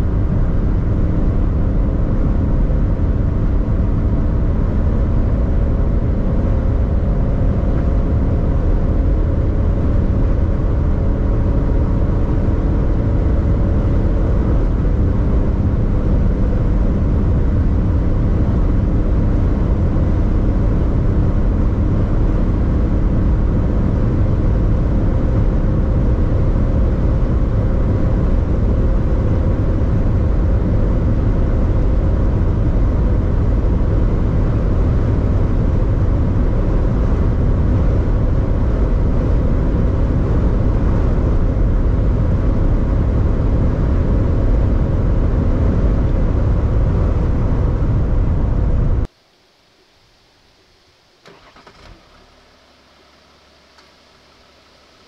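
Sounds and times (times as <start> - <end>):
wind and tyre noise: 0.0 - 49.4
engine drone: 0.0 - 55.0.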